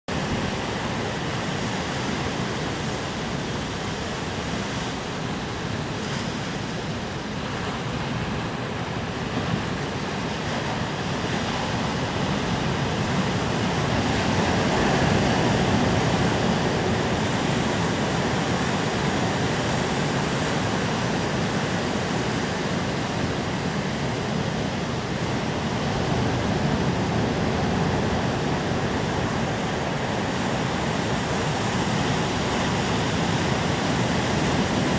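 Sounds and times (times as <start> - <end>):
waves breaking on shore: 0.1 - 34.9.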